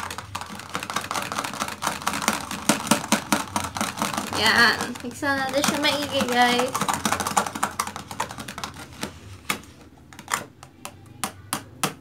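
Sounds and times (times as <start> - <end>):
whisk clicking against plastic container: 0.0 - 12.0.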